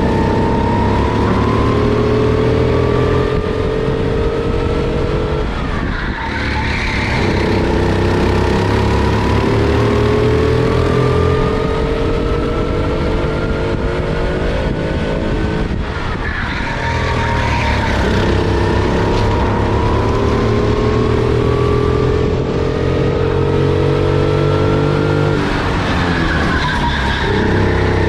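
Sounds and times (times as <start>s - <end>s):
kart engine accelerating: 0.0s - 28.0s.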